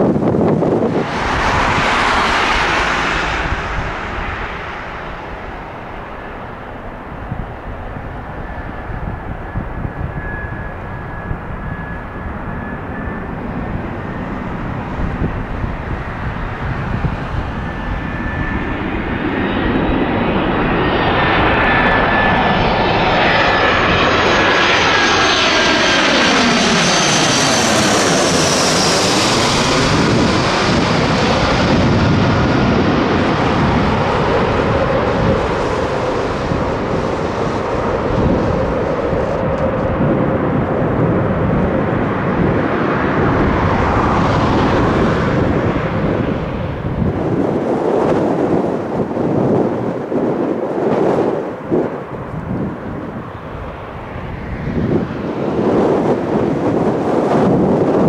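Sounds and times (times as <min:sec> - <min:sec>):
jet airliner engines passing overhead: 0:00.0 - 0:58.0.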